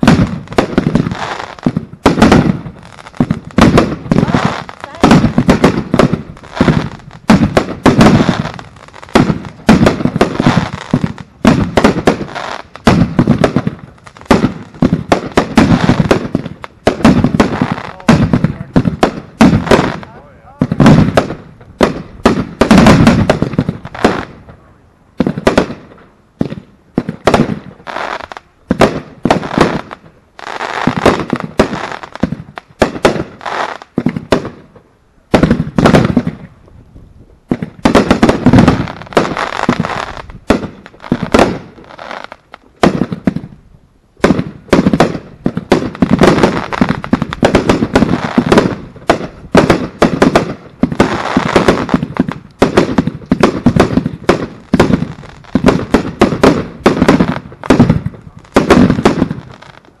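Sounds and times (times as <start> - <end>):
fireworks bangs and bursts: 0.0 - 24.6, 25.2 - 36.5, 37.4 - 43.6, 44.2 - 60.0.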